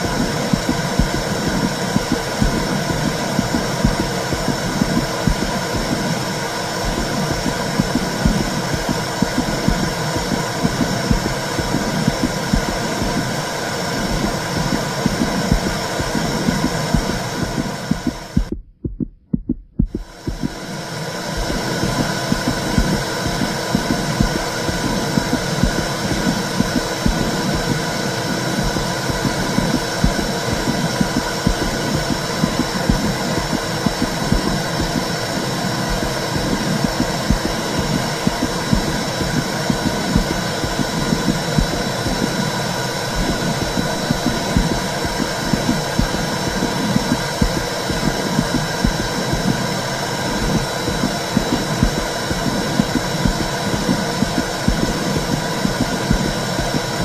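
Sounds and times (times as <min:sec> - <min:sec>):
heartbeat pulse: 0:00.0 - 0:57.0.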